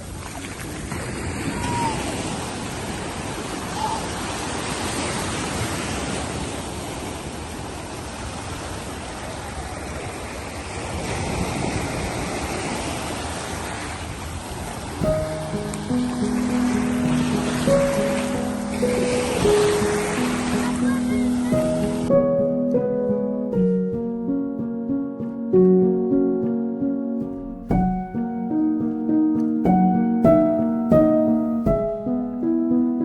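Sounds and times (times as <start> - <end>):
sea waves and surf rushing: 0.0 - 33.0.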